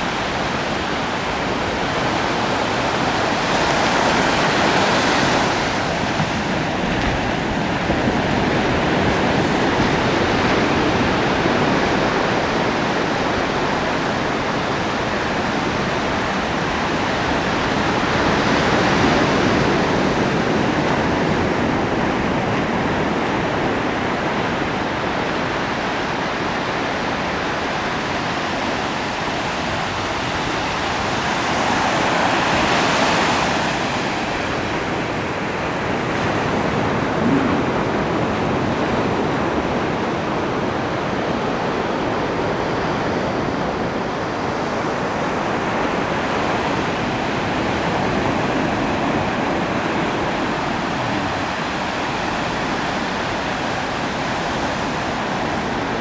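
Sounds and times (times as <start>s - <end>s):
ocean waves on beach: 0.0s - 56.0s.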